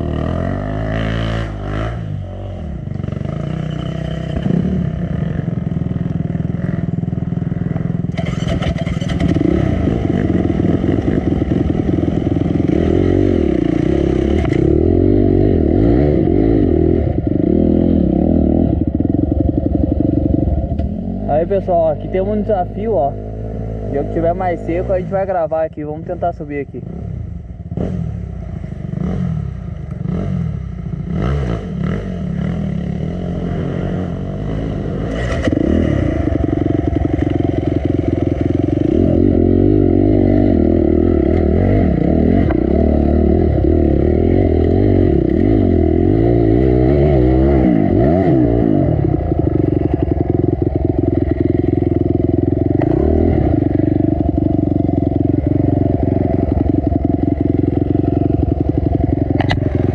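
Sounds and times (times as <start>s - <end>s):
dirt bike engine revving: 0.0s - 5.7s, 7.6s - 25.5s, 26.2s - 59.9s.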